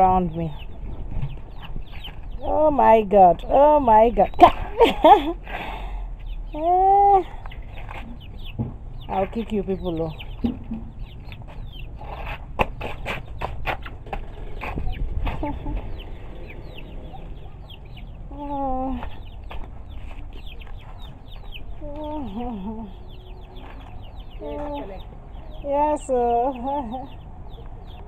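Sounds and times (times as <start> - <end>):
chickens clucking and calling: 0.2 - 28.0.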